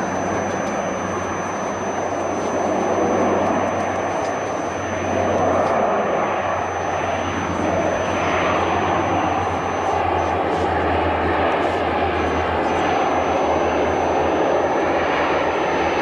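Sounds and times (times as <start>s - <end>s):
water bomber plane engines roaring: 0.0s - 16.0s.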